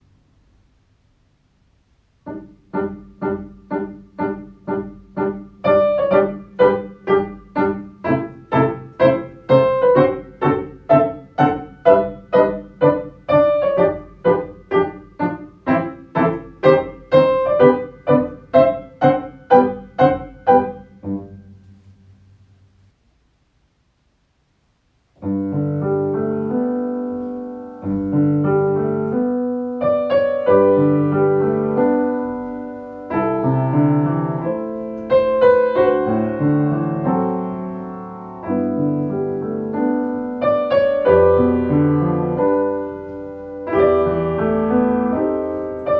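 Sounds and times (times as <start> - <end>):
piano playing detached chords: 2.2 - 22.6, 25.2 - 45.9.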